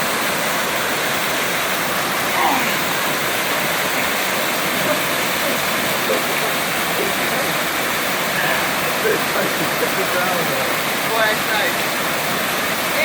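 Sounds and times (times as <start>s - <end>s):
waterfall pouring into pool: 0.0s - 13.0s.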